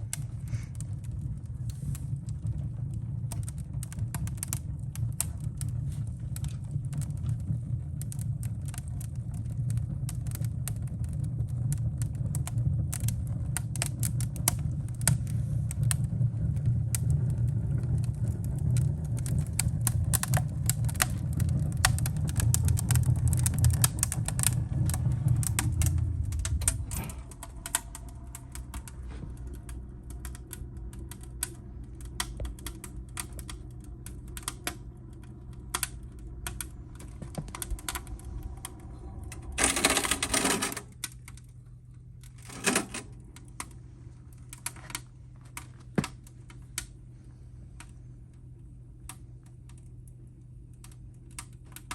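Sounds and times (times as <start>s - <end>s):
low rumble: 0.0s - 50.7s
wood fire crackling and popping: 0.0s - 51.9s.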